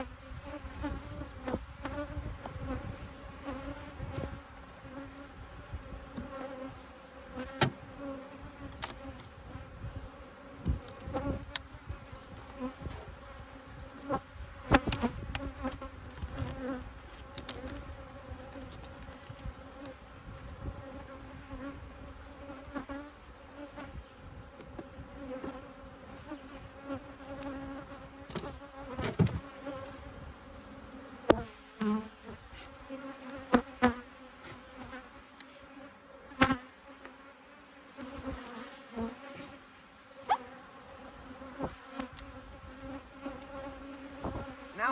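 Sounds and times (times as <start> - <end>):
bees buzzing in a swarm: 0.0 - 44.9.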